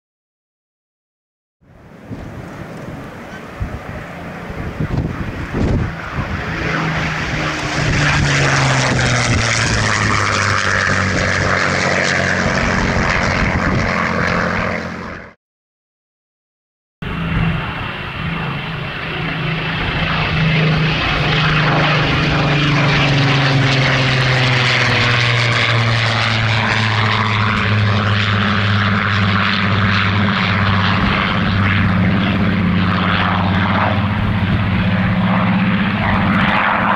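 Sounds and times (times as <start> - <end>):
aircraft engine drone flying past: 1.7 - 15.4, 17.0 - 36.9.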